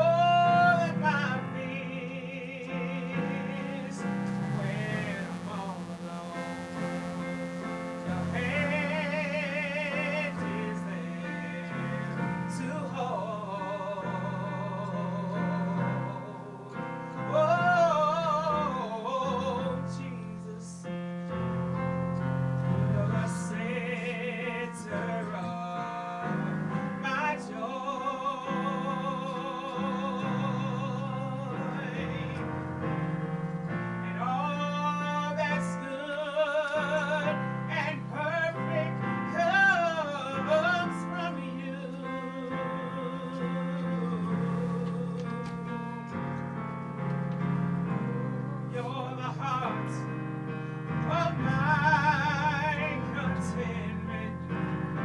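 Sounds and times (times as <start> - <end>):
person singing with vibrato: 0.0 - 21.3, 22.2 - 46.4, 47.5 - 55.0
piano: 0.0 - 55.0.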